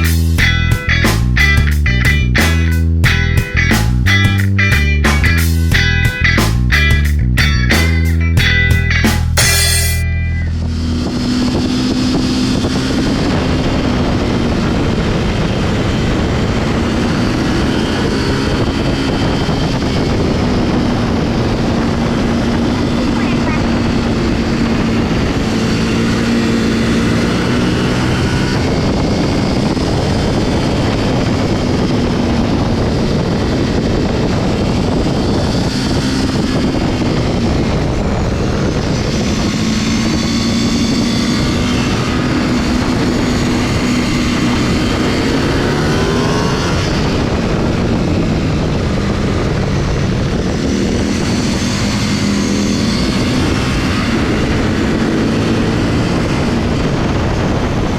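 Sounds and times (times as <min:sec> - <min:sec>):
motorcycle engine running: 0:10.6 - 0:57.9
wind rush: 0:11.0 - 0:57.9.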